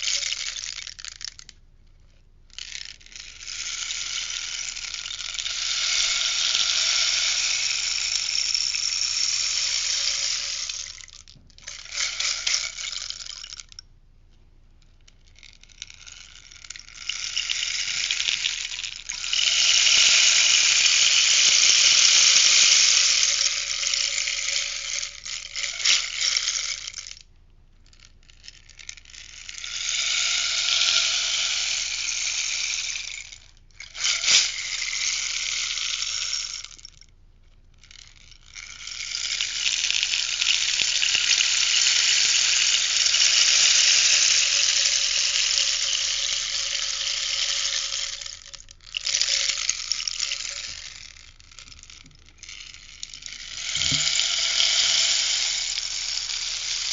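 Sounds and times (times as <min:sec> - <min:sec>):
rainstick beads trickling: 0:00.0 - 0:01.6, 0:02.5 - 0:13.9, 0:15.0 - 0:37.1, 0:37.8 - 0:56.9.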